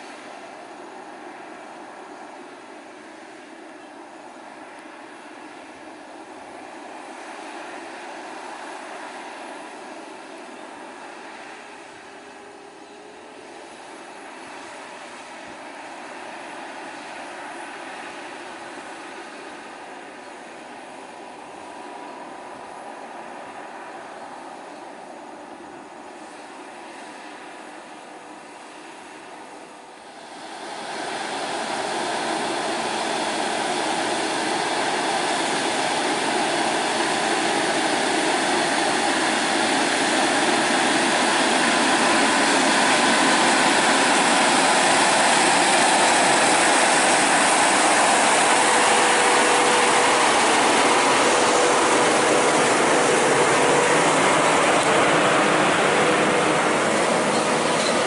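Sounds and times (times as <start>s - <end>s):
diesel truck engine climbing: 0.0s - 58.0s
faint steady whine: 0.0s - 58.0s.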